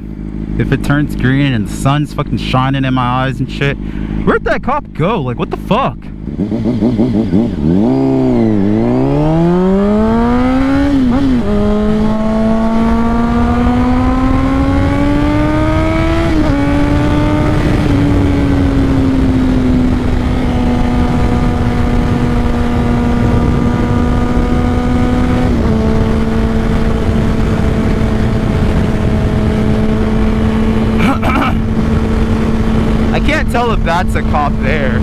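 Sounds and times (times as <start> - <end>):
motorcycle engine under way: 0.0 - 4.3, 4.9 - 35.0
rush of wind: 6.1 - 35.0.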